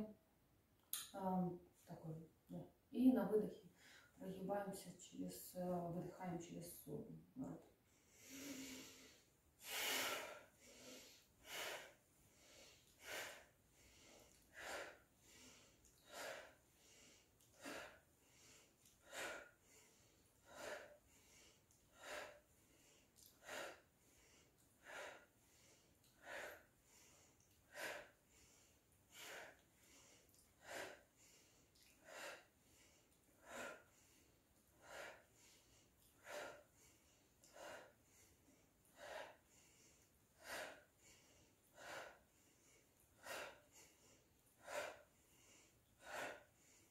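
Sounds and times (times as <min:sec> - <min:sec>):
quiet breaths in through nose: 0:07.8 - 0:46.9.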